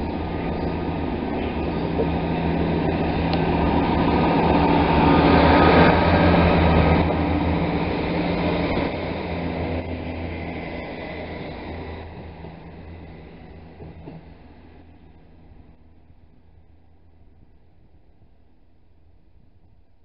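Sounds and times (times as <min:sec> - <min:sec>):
diesel train engines droning: 0:00.0 - 0:19.1.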